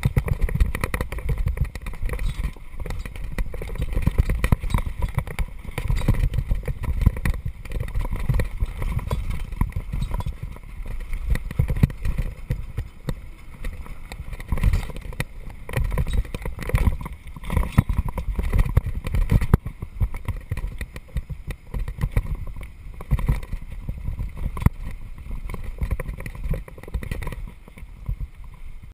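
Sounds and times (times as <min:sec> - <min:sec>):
bike knocking and rattling: 0:00.0 - 0:28.9
tyres rumbling on gravel: 0:00.0 - 0:28.9.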